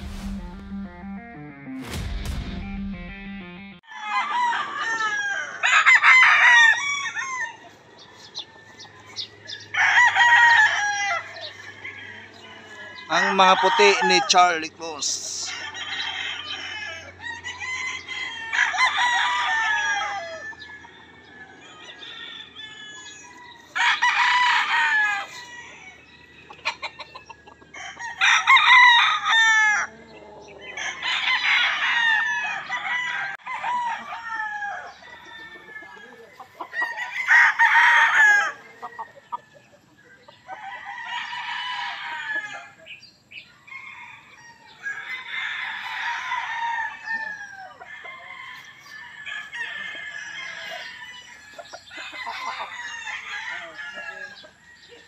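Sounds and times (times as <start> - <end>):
roosters crowing: 3.8 - 55.0.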